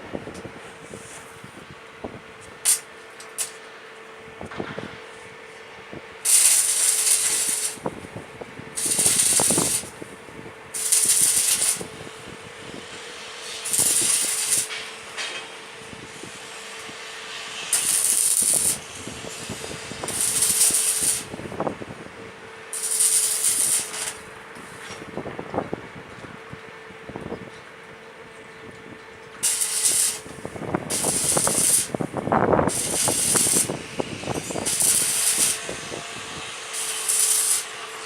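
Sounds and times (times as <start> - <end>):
steady hum: 0.0 - 38.0
crackling hissing tack welds: 0.3 - 1.6, 2.2 - 25.3, 29.3 - 38.0.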